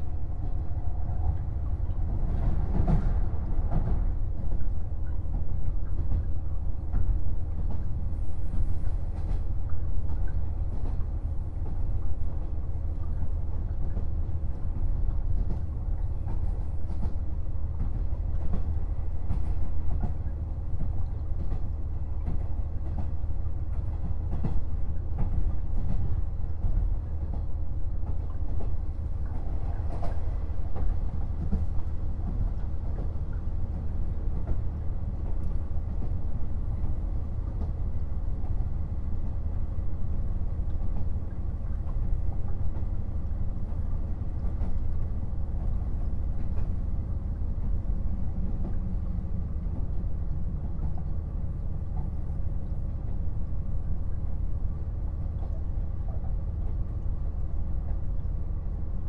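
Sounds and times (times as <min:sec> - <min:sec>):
rail joint clicks: 0:00.0 - 0:59.0.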